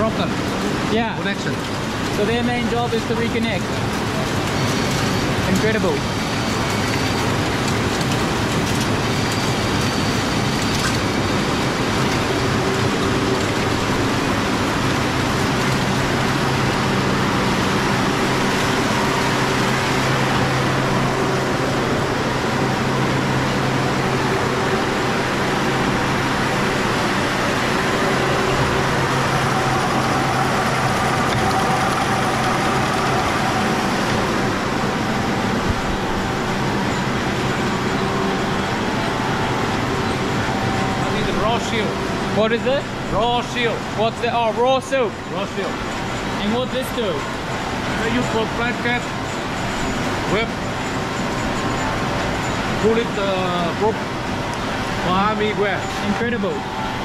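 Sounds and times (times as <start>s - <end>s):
machines running: 0.0s - 57.0s.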